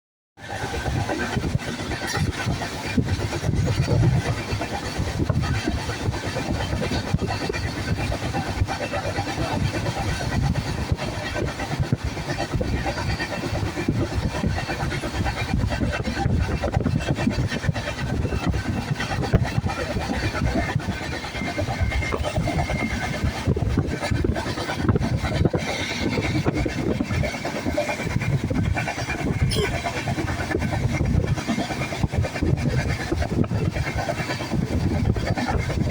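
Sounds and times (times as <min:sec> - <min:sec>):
train rumbling: 0:00.4 - 0:35.9.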